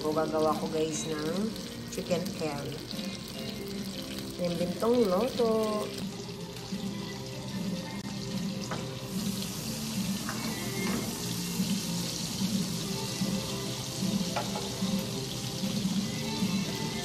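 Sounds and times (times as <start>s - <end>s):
background music with low notes: 0.0s - 17.0s
oil sizzling in a frying pan: 0.0s - 17.0s.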